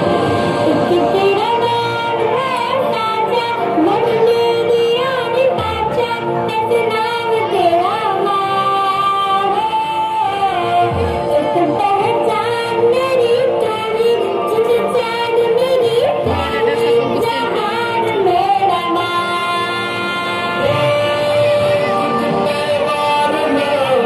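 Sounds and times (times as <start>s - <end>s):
instrumental backing: 0.0s - 24.0s
woman singing: 0.0s - 24.0s.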